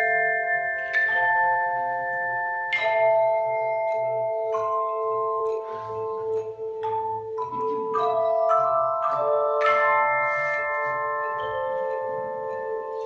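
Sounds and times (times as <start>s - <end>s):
handbell choir playing: 0.0s - 13.0s.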